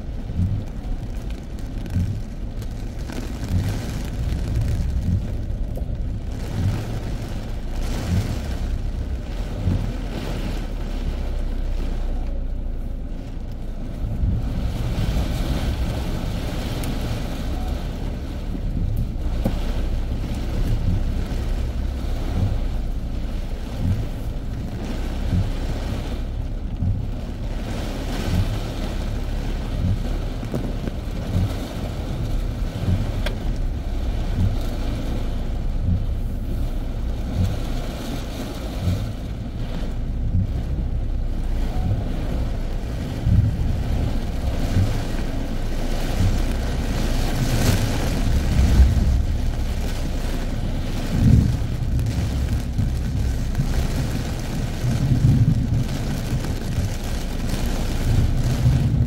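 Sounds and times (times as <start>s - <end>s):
heavy rain pelting a car: 0.0s - 59.0s
low thuds: 0.0s - 59.0s
wind and road rumble: 0.0s - 59.0s.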